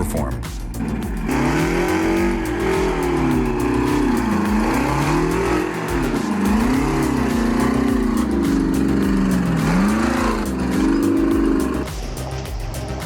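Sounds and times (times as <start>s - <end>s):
truck engine revving under load: 0.7s - 13.0s.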